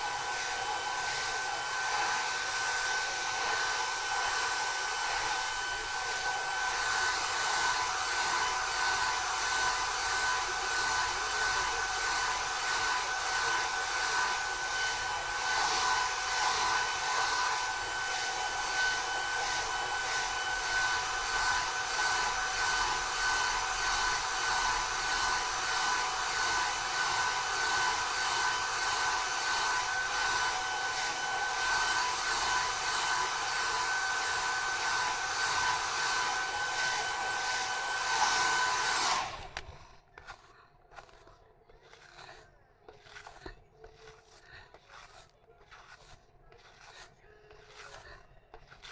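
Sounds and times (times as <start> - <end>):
hair dryers blowing: 0.0 - 39.9.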